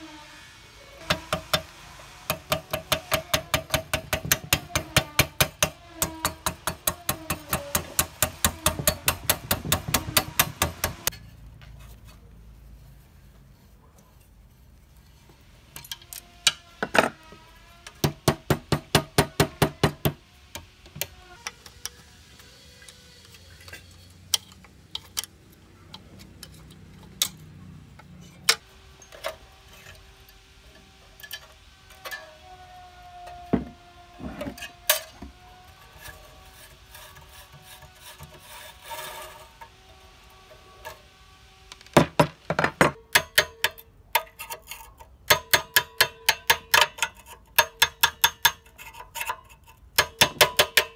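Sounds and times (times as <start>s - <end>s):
scraping and handling of parts: 1.0s - 18.3s, 20.7s - 50.9s.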